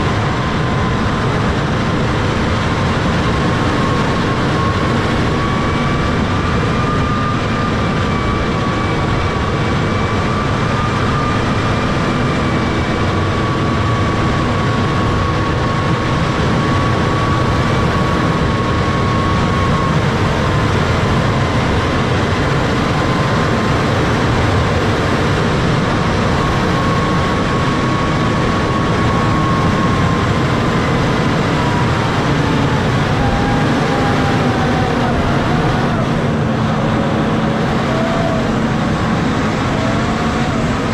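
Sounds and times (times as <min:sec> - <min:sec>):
high whine: 0:00.0 - 0:40.9
tractor diesel engine under load: 0:00.0 - 0:40.9.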